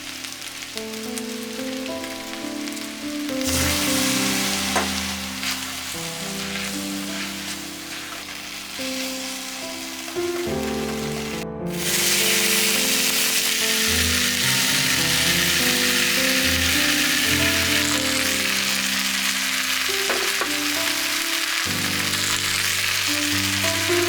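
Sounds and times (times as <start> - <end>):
background music sustained notes: 0.0 - 24.0
food sizzling in frying pan: 0.0 - 24.0.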